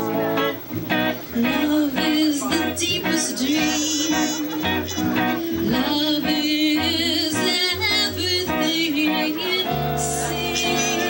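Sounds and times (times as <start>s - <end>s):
electric guitar: 0.0s - 11.0s
man singing: 1.4s - 11.0s.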